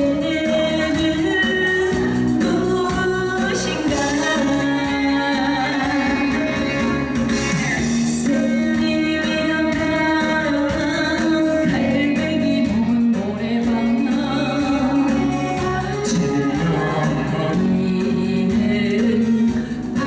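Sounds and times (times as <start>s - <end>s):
instrumental accompaniment: 0.0s - 20.0s
woman singing: 0.0s - 20.0s.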